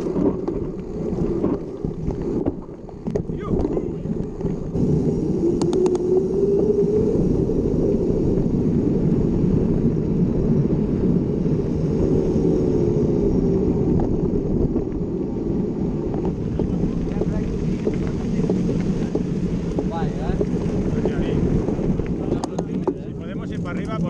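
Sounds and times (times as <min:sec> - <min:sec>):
bike tyre rumble: 0:00.0 - 0:24.0
wind on microphone: 0:00.0 - 0:24.0.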